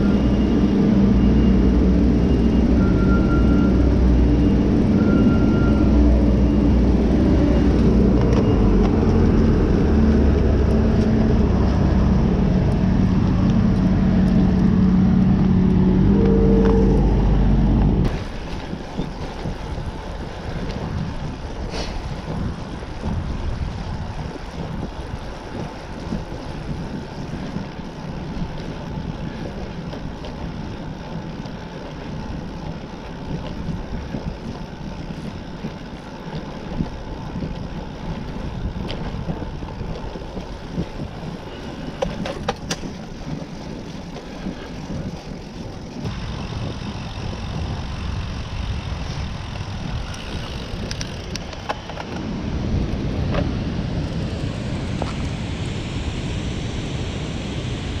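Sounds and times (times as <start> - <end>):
bicycle tyres rolling on pavement: 0.0 - 58.0
wind on microphone: 0.0 - 58.0.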